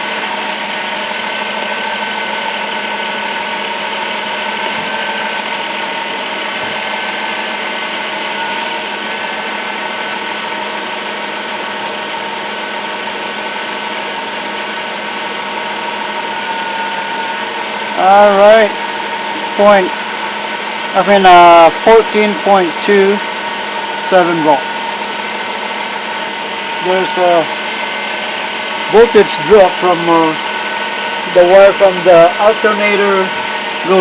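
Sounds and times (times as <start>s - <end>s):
car engine idling with whine: 0.0s - 34.0s.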